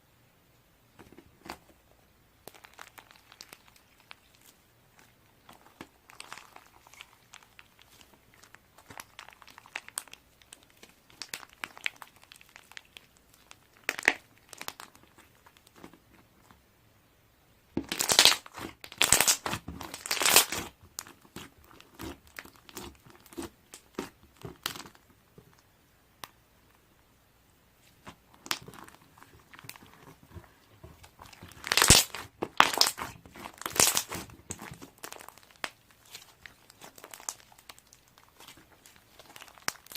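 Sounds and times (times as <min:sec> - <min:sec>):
crinkling and rustling: 0:00.9 - 0:16.6, 0:17.8 - 0:25.7, 0:27.8 - 0:39.9.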